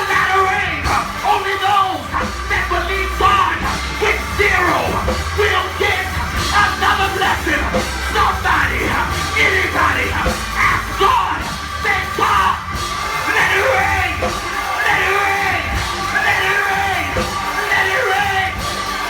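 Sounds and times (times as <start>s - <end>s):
person shouting and chanting: 0.0s - 18.7s
instrumental backing music: 0.0s - 19.0s.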